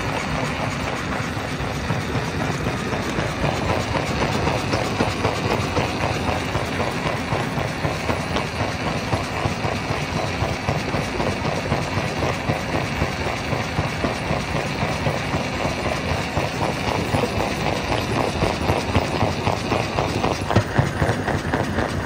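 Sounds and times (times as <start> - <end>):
heavy machine drone: 0.0 - 22.0.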